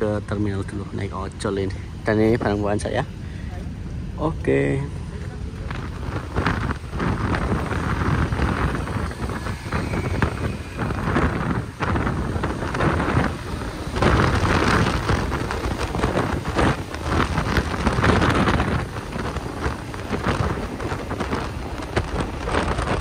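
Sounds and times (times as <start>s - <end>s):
road and traffic noise: 0.0s - 23.0s
wind buffeting microphone: 0.0s - 23.0s.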